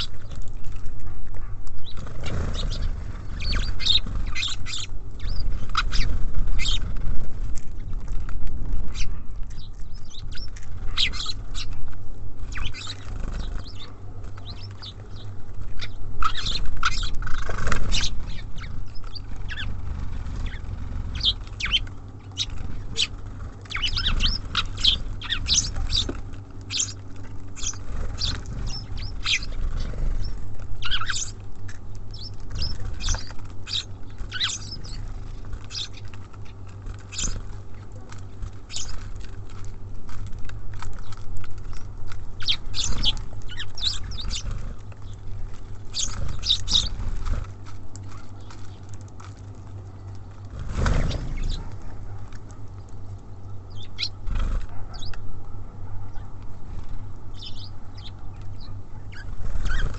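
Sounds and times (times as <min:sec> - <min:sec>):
birds chirping: 0:00.0 - 0:59.9
low steady hum: 0:00.0 - 0:59.9.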